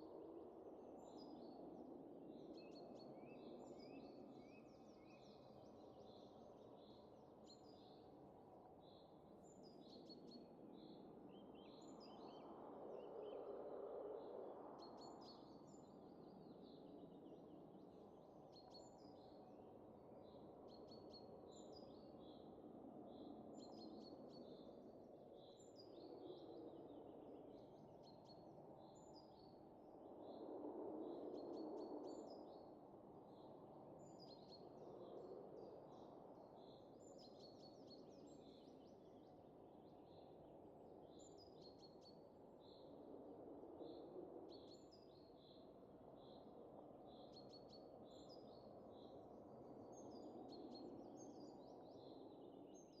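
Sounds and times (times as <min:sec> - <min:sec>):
faint wind: 0:00.0 - 0:53.0.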